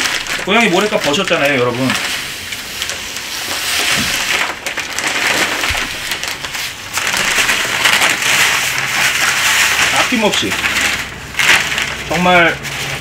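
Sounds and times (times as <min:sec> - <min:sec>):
cat litter pouring: 0:00.0 - 0:13.0.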